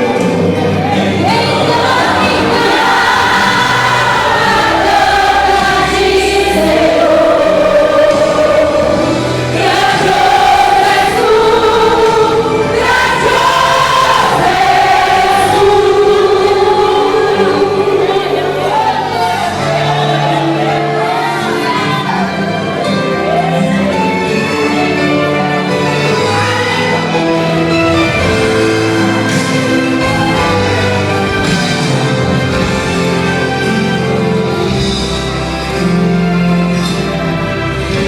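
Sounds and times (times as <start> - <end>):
gospel choir singing a hymn: 0.0 - 38.0
instrumental accompaniment: 0.0 - 38.0.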